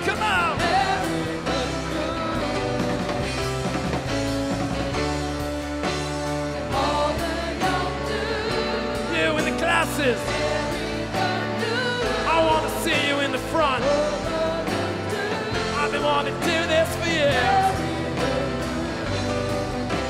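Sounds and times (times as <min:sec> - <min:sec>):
backing chorus singing: 0:00.0 - 0:03.7, 0:06.5 - 0:20.0
rock band playing: 0:00.0 - 0:20.0.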